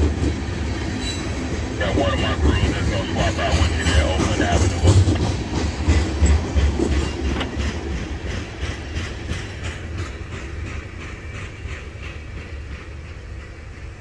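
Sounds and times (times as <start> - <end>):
low train rumble: 0.0 - 14.0
train wheels clacking: 0.0 - 14.0.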